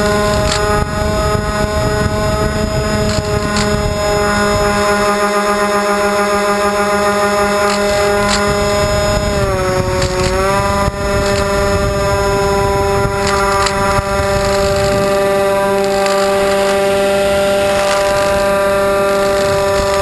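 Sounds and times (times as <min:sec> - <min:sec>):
electric motors whining: 0:00.0 - 0:20.0
wind rushing on microphone: 0:00.0 - 0:20.0.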